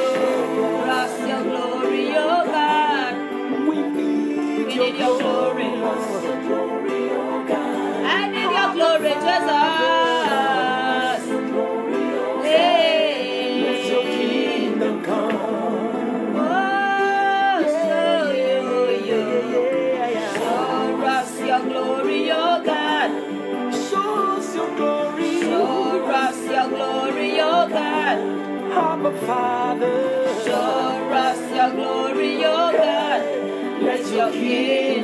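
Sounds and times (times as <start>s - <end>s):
musical accompaniment: 0.0s - 35.0s
person singing gospel song: 0.0s - 35.0s.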